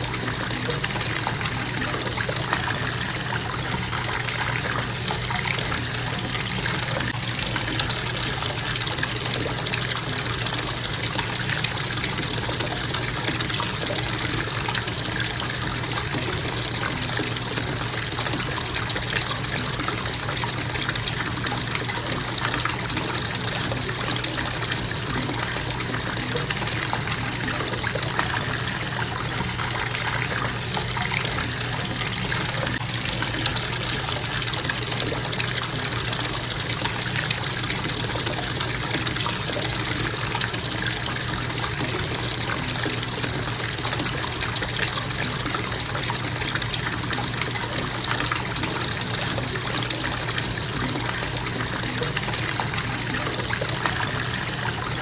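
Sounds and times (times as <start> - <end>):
bathtub faucet running: 0.0 - 55.0.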